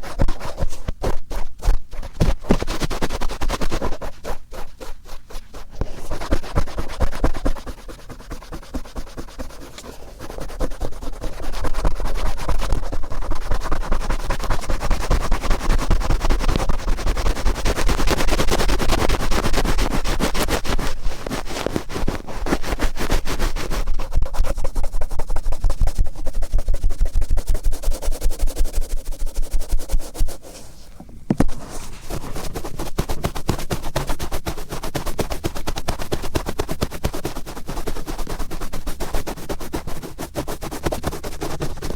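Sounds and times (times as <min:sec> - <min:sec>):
cotton swab scratching in ear: 0:00.0 - 0:41.9.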